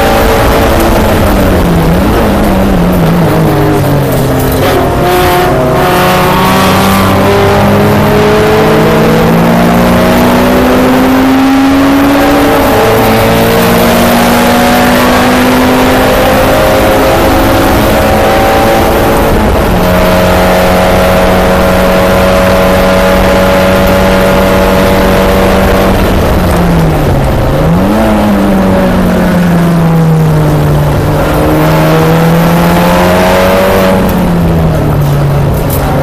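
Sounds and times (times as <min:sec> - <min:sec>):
race car engine from inside: 0:00.0 - 0:36.0.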